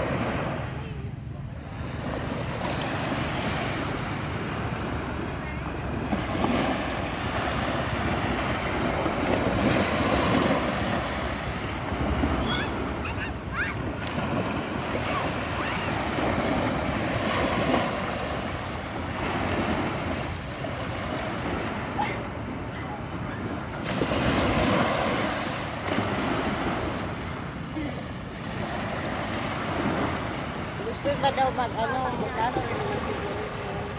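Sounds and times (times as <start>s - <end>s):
sea waves breaking: 0.0s - 33.9s.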